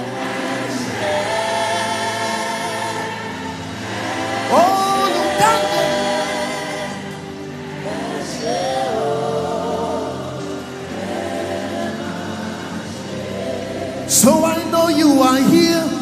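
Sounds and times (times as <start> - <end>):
group singing gospel: 0.0 - 16.0
lead voice singing: 0.0 - 16.0.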